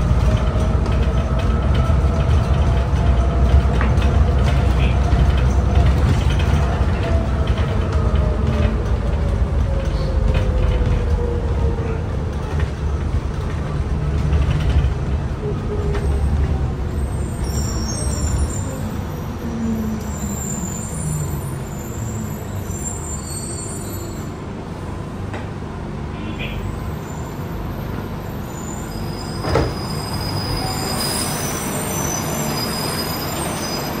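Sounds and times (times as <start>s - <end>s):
light-rail car rumble: 0.0s - 34.0s.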